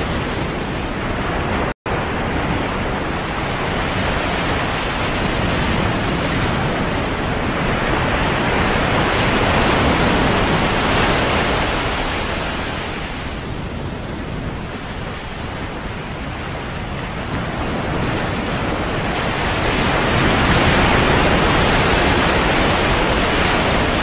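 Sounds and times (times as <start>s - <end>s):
sea waves washing in: 0.0s - 24.0s.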